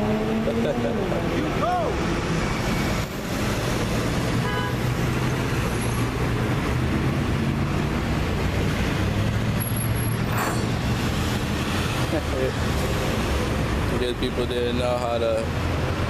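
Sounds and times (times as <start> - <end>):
street traffic passing: 0.0 - 16.0.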